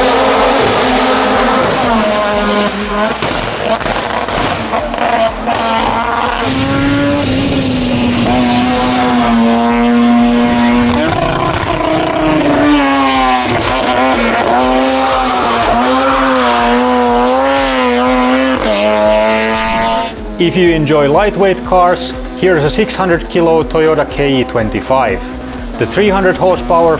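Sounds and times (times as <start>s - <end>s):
race car engine at high revs: 0.0s - 26.9s.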